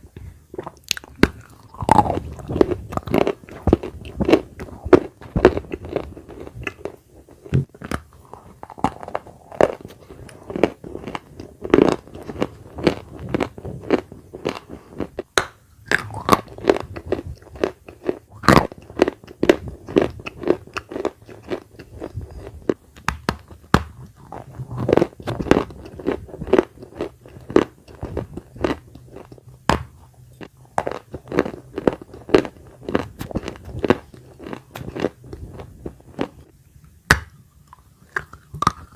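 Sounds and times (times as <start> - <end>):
crunchy chewing of clay: 0.6 - 36.5, 37.6 - 38.9.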